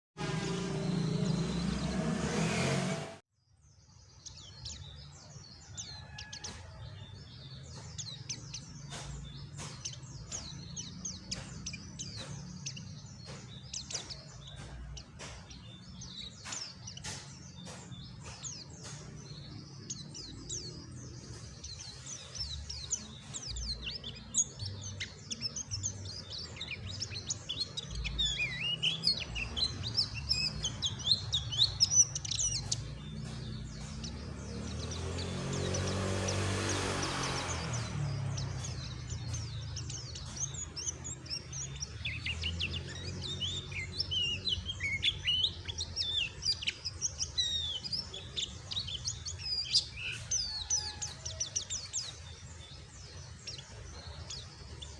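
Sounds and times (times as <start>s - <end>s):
bird twittering: 4.1s - 54.9s.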